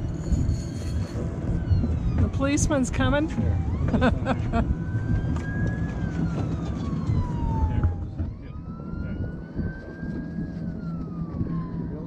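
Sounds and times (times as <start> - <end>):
low steady rumble: 0.0 - 12.0
police siren wailing: 0.0 - 12.0.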